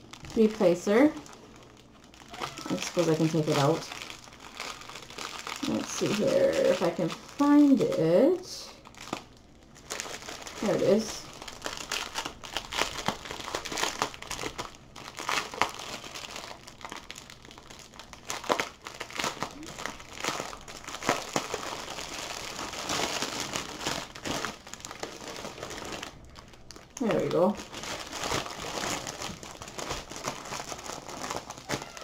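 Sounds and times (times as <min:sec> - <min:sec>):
plastic bags crinkling: 0:00.0 - 0:32.0.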